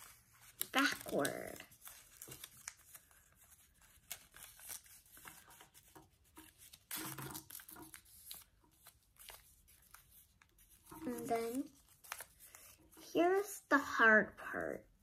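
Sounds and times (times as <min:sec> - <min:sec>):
paper being folded and creased: 0:00.0 - 0:13.6.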